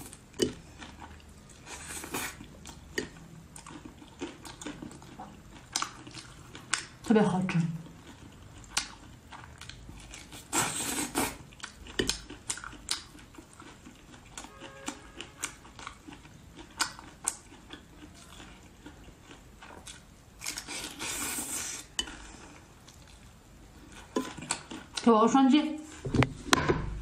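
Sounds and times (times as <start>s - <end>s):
prawns being bitten and chewed: 0.0s - 25.1s.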